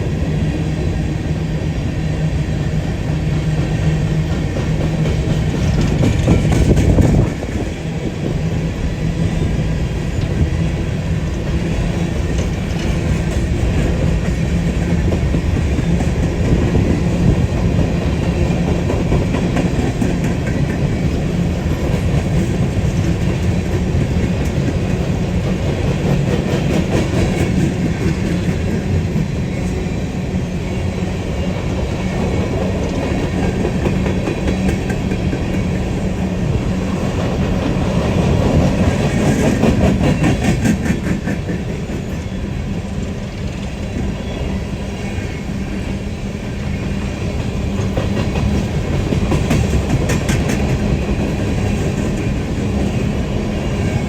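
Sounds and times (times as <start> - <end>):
train wheels clacking on rails: 0.0 - 54.0.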